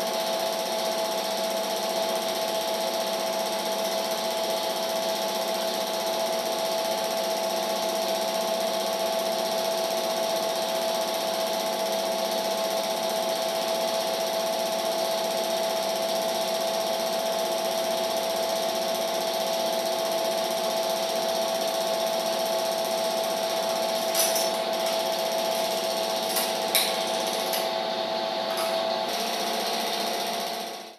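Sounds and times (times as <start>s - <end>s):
film projector whirring: 0.0s - 30.9s.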